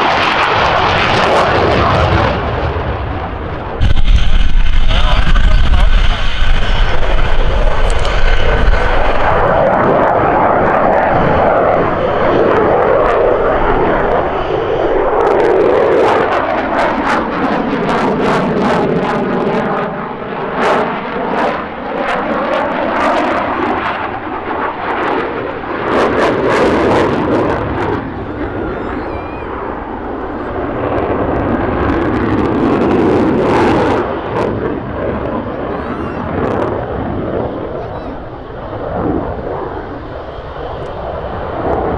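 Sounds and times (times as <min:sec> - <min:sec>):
fighter jet roar: 0:00.0 - 0:41.9.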